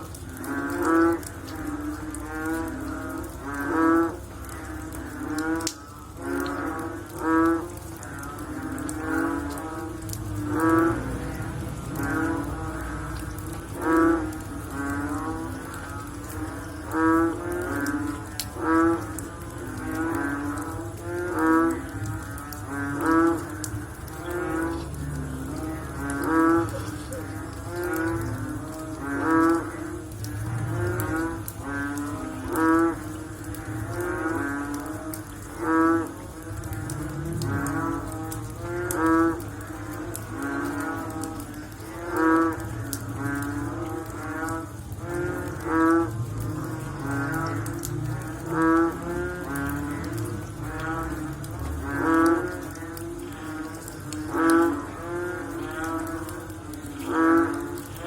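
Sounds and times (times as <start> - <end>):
fainter frog calls: 0.0 - 58.0
frog croaking loudly: 0.0 - 58.0.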